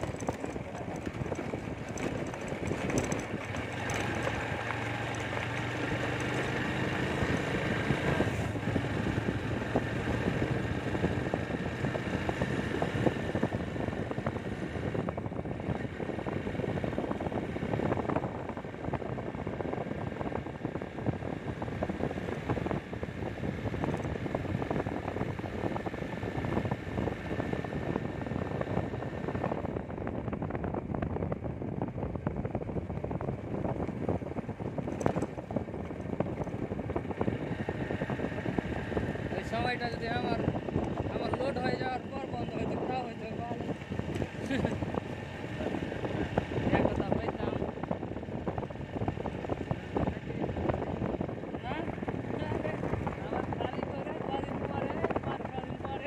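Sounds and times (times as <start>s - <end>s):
motorcycle engine hum: 0.0s - 56.0s
road rumble: 0.0s - 56.0s
wind rushing on microphone: 0.0s - 56.0s.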